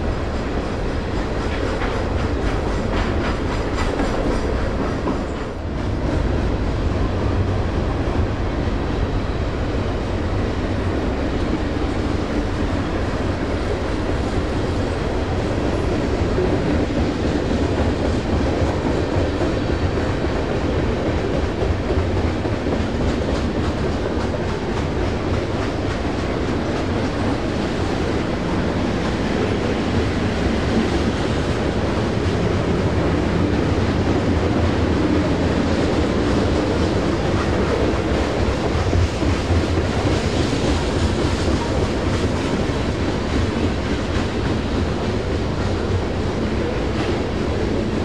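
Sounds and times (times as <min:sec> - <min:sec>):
train wheels on rails: 0:00.0 - 0:48.0.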